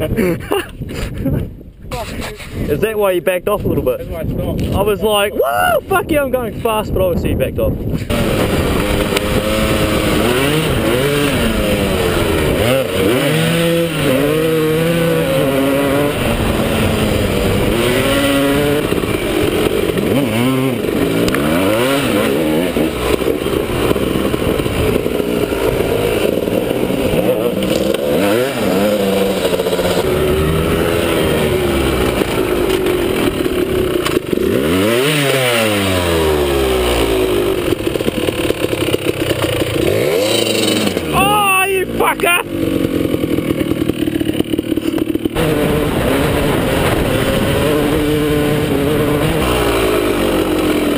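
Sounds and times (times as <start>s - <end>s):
dirt bike engine revving: 8.1s - 50.9s.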